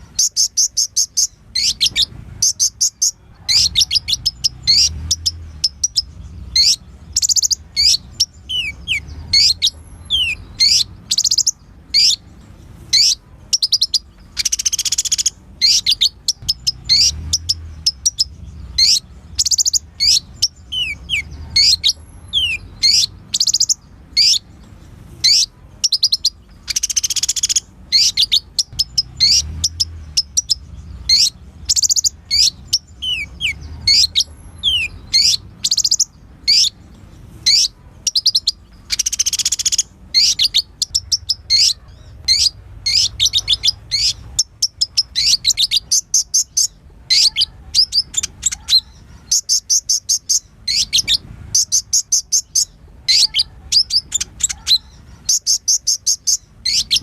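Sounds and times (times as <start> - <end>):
sunbird chirps and trills: 0.0 - 57.0.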